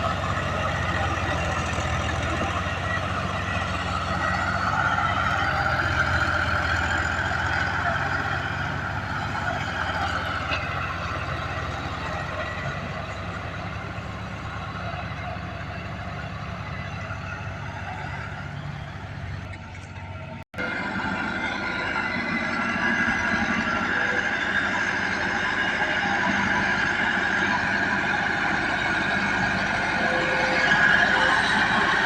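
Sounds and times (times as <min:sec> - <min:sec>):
high engine whine: 0:00.0 - 0:32.0
tractor diesel engine: 0:00.0 - 0:32.0.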